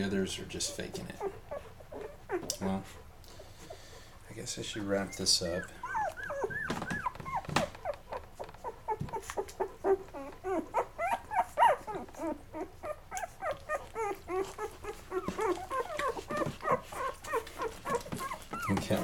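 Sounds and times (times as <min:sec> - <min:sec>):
puppies squeaking and whimpering: 0:00.1 - 0:19.0.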